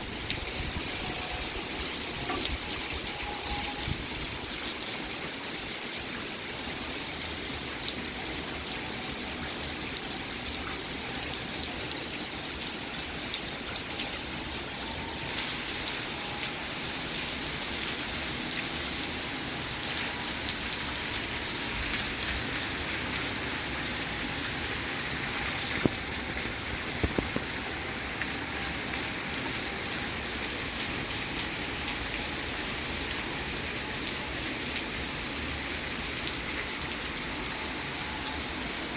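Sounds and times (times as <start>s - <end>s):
raindrops ticking on a surface: 0.0s - 38.9s
steady rain: 0.0s - 38.9s.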